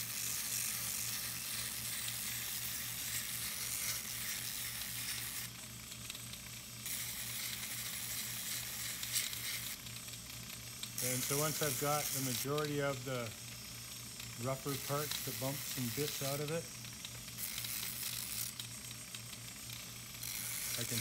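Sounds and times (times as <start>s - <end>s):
rotary tool sanding wood: 0.0s - 13.5s, 14.1s - 21.0s.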